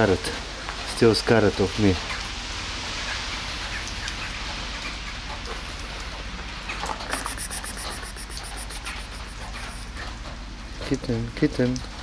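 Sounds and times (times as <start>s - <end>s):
rain on concrete: 0.0s - 12.0s
water drips: 0.0s - 12.0s.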